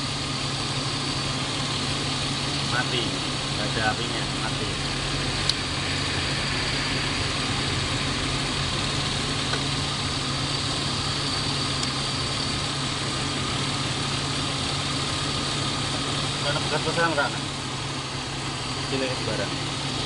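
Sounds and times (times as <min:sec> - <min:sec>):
car engine idling with misfire: 0:00.0 - 0:20.0.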